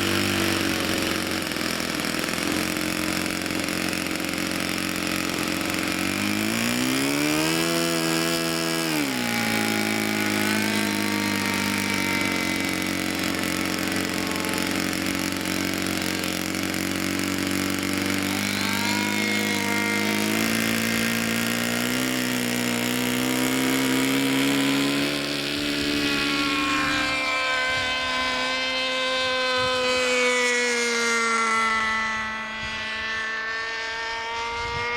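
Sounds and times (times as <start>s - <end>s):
model plane engine and propeller: 0.0s - 34.9s.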